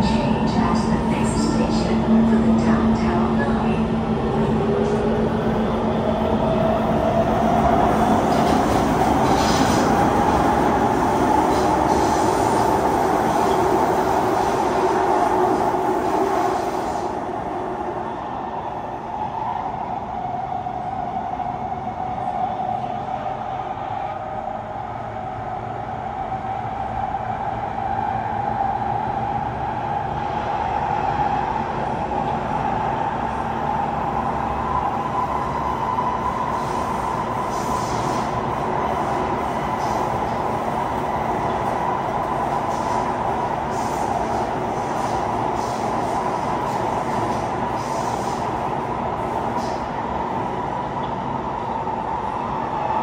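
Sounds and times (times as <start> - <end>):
train rumbling in tunnel: 0.0 - 53.0.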